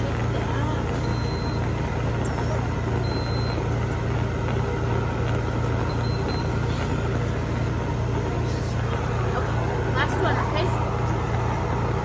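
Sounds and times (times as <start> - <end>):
pulsing mechanical buzz: 0.0 - 12.0.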